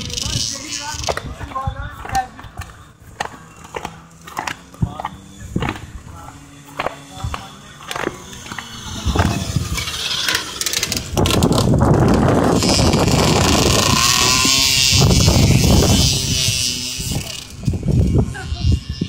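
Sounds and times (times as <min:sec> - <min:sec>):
small motorbike engine revving: 0:00.0 - 0:19.0.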